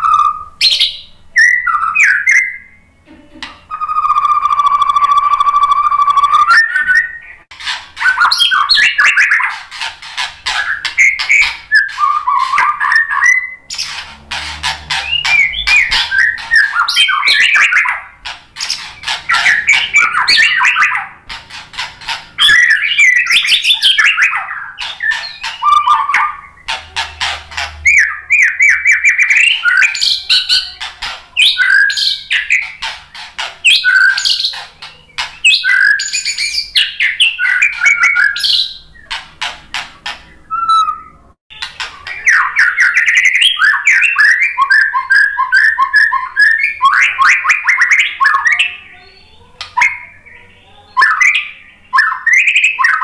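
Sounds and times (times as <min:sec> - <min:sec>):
bird singing whistles and chatters: 0:00.0 - 0:03.0, 0:03.6 - 0:14.0, 0:14.6 - 0:39.2, 0:40.3 - 0:53.0.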